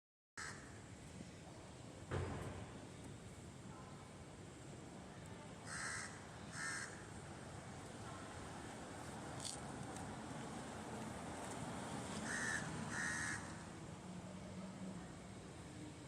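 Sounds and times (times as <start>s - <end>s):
outdoor background hiss: 0.4s - 16.0s.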